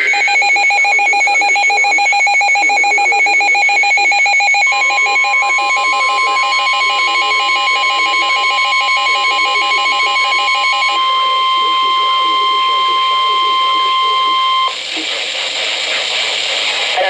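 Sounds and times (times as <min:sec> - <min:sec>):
fast-pulsing alarm beeping: 0:00.0 - 0:14.8
steady warning alarm tone: 0:00.0 - 0:14.8.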